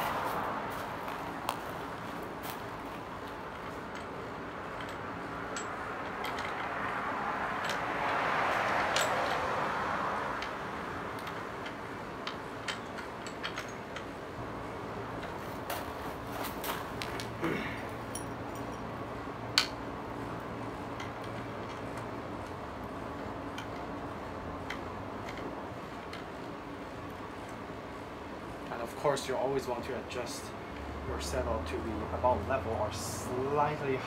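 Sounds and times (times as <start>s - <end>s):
broad rush of noise: 0.0s - 34.0s.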